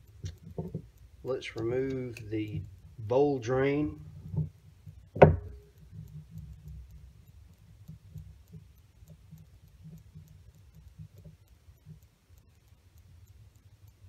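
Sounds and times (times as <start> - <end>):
faint clicks and handling noise: 0.0 - 14.0.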